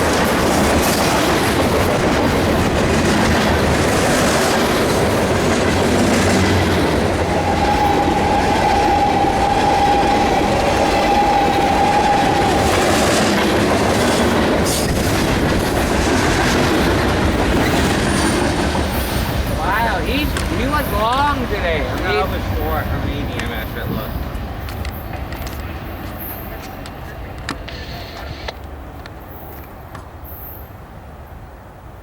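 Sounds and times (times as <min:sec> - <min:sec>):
train wheels clattering on rails: 0:00.0 - 0:30.8.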